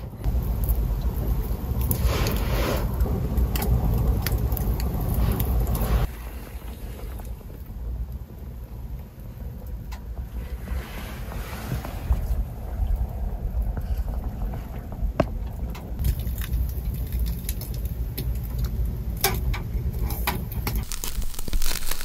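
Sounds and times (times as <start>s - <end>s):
wind rumble on microphone: 0.0s - 20.9s.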